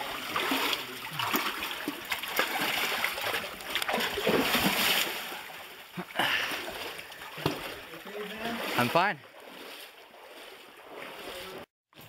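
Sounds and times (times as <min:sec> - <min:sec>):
feet wading through water: 0:00.0 - 0:11.7
creek water running: 0:00.0 - 0:12.0.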